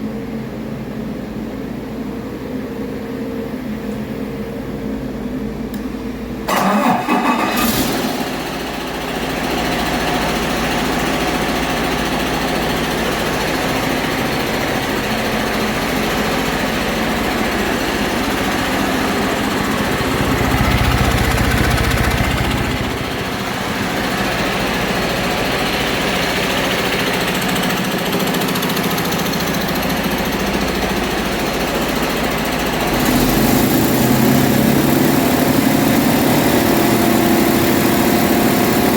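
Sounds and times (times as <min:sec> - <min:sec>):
truck diesel engine running: 0:06.5 - 0:38.9.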